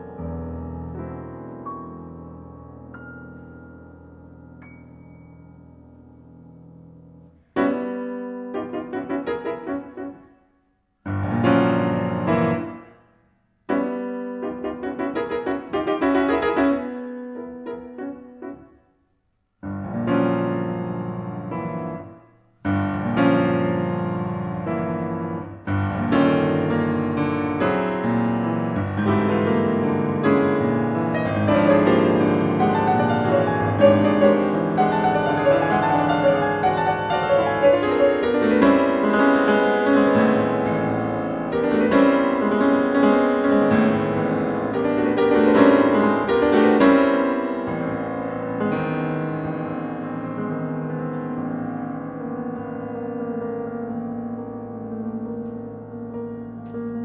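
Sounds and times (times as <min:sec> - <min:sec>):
solo grand piano classical music: 0:00.0 - 0:57.0.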